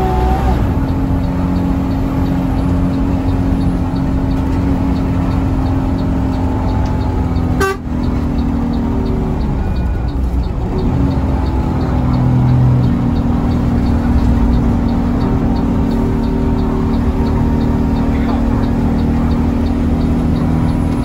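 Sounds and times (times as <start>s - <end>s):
bus engine and road drone: 0.0s - 21.0s.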